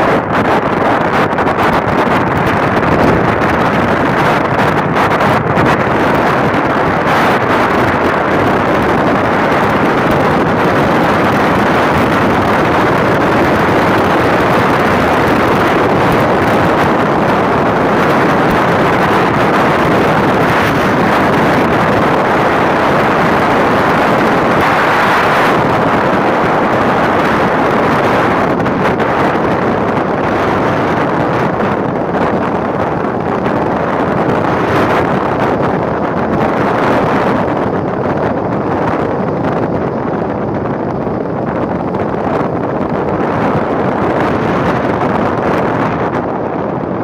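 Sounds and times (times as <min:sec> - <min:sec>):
road noise: 0:00.0 - 0:47.0
wind rushing over microphone: 0:00.0 - 0:47.0.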